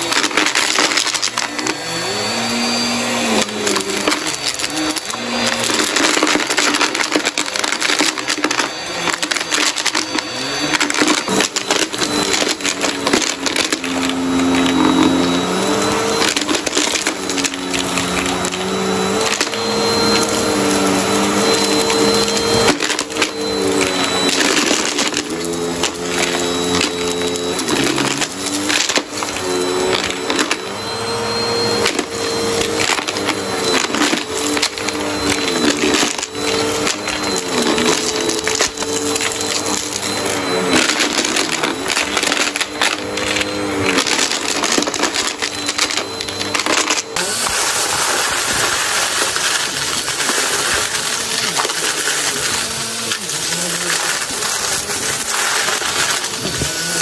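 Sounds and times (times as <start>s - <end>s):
debris crackling in vacuum: 0.0s - 57.0s
vacuum cleaner motor hum: 0.0s - 57.0s.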